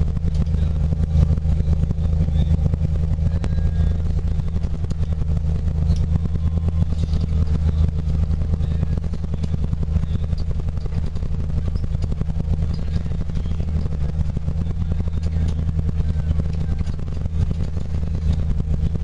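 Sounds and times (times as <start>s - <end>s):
diesel engine droning with clatter: 0.0s - 19.0s.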